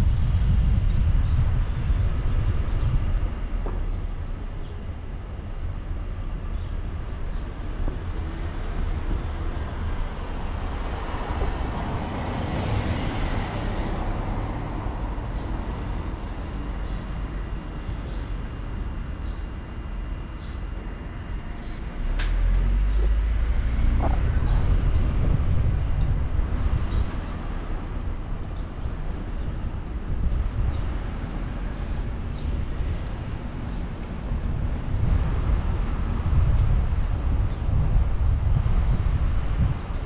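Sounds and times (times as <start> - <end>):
road and engine rumble: 0.0 - 40.0.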